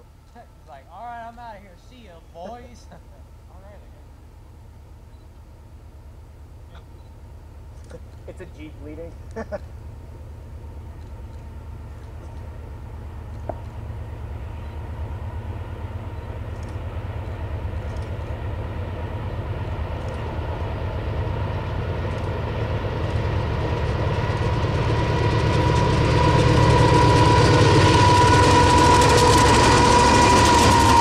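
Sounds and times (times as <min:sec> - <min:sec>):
diesel locomotive engine rumble: 0:00.0 - 0:31.0
locomotive whine: 0:00.0 - 0:31.0.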